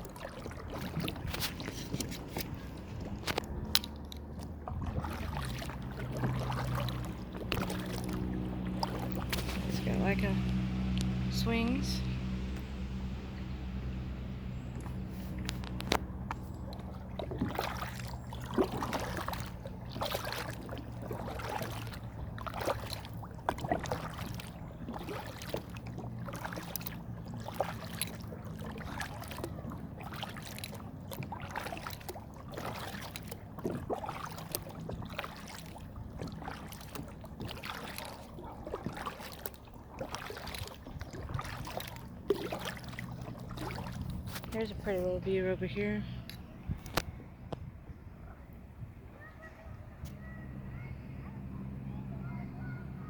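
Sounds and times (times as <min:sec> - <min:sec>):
paddle splashing through water: 0:00.0 - 0:47.1
distant highway traffic hum: 0:00.0 - 0:53.0.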